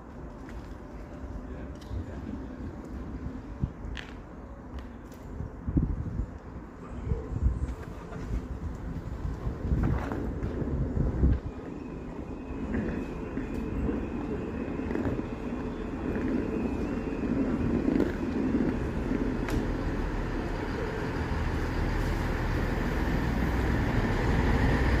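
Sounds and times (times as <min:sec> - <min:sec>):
train wheels and engine rumbling: 0:00.0 - 0:25.0.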